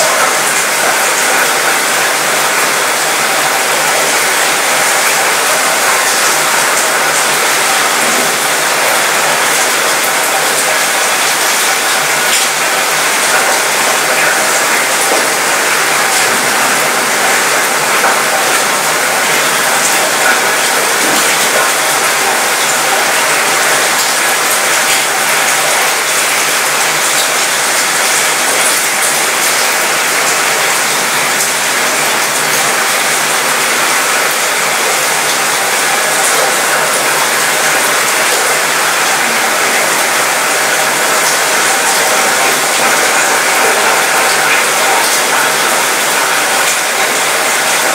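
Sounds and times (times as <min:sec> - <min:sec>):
rain on a metal balcony: 0:00.0 - 0:47.9.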